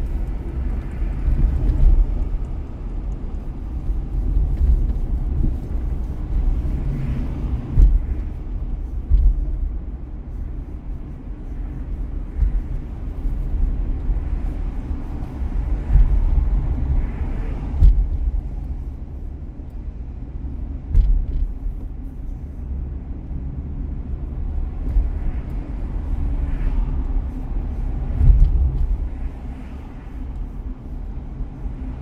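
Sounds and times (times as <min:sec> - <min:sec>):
car road rumble: 0:00.0 - 0:32.0.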